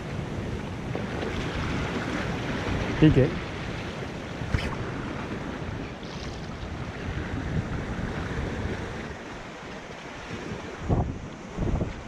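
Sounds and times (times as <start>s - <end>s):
surf washing against rocks: 0.0s - 12.0s
wind buffeting microphone: 0.0s - 12.0s.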